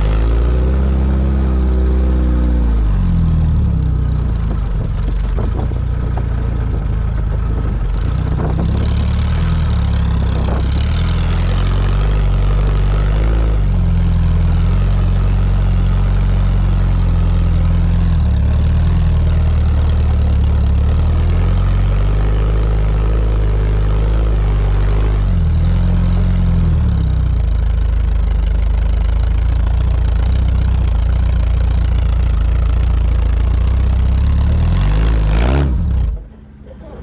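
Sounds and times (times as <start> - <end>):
car engine running at low revs: 0.0 - 37.0.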